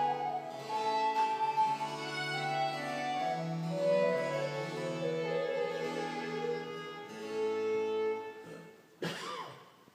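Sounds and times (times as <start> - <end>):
baroque chamber music: 0.0 - 8.8.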